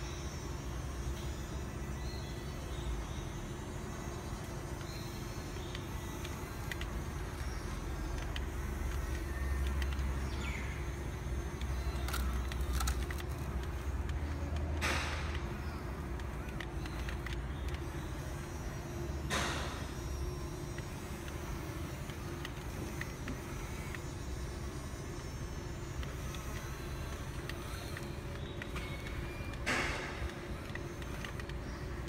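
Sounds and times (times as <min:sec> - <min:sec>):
small electric motors and gears: 0:00.0 - 0:32.0.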